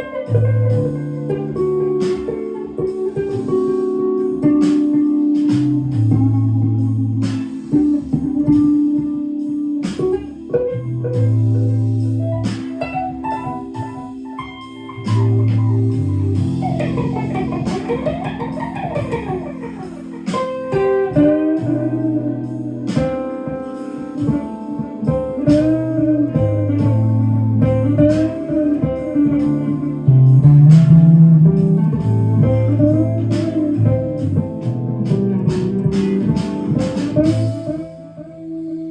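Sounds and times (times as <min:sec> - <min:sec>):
clean electric guitar melody: 0:00.0 - 0:38.9.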